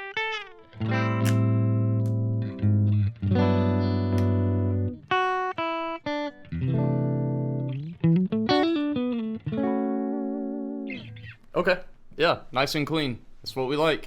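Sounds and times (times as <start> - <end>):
clean electric guitar: 0.0 - 11.5.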